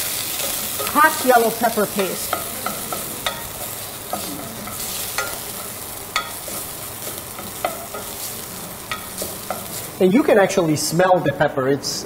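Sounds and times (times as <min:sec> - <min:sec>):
paste sizzling in oil: 0:00.0 - 0:10.5.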